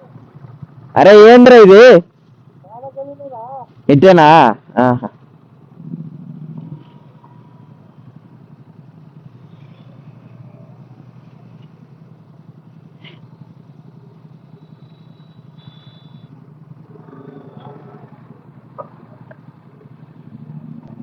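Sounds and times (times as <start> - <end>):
motorcycle engine running: 0.0 - 21.0
road noise: 0.0 - 21.0.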